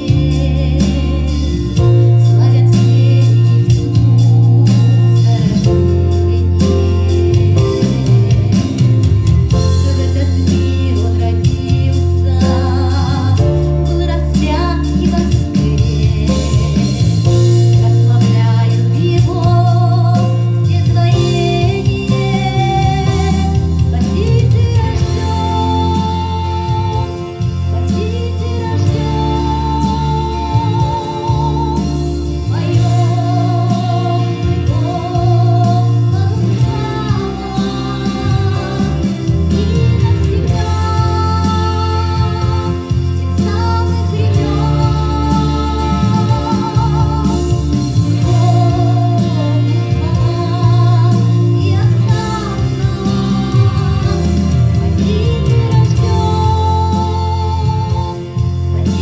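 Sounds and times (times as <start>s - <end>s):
instrumental backing: 0.0s - 59.0s
person singing: 0.0s - 59.0s
song with guitar and bass: 0.0s - 59.0s.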